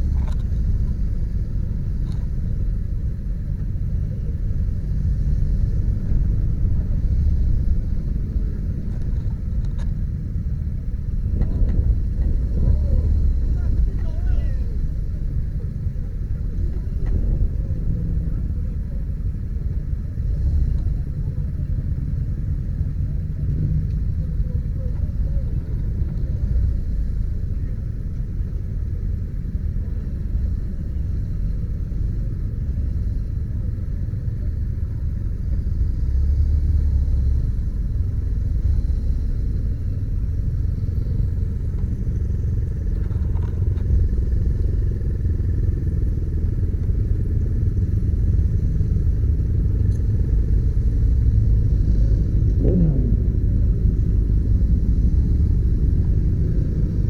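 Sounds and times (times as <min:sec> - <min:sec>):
motorcycle engine and road rumble: 0:00.0 - 0:57.0.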